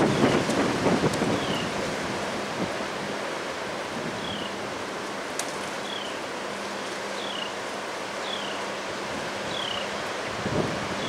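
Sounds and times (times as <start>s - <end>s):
strong wind through trees: 0.0s - 11.0s.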